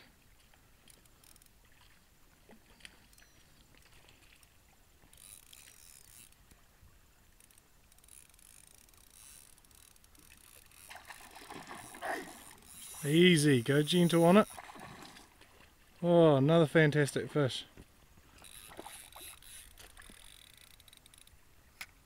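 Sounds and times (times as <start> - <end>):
faint ticks: 0.0 - 6.7, 7.3 - 14.7, 17.8 - 22.0.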